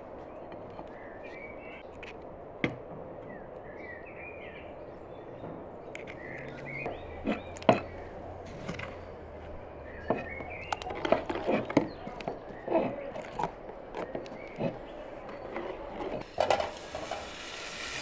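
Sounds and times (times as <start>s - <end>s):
small birds chirping: 0.0s - 2.1s, 3.2s - 16.2s.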